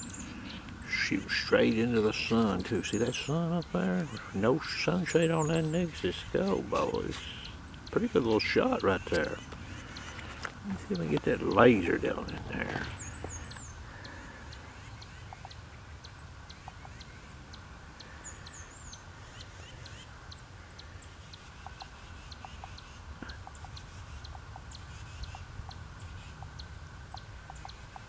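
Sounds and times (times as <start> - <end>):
low background rumble: 0.0 - 27.7
bird warbling: 0.0 - 28.0
small birds chirping: 0.0 - 28.0.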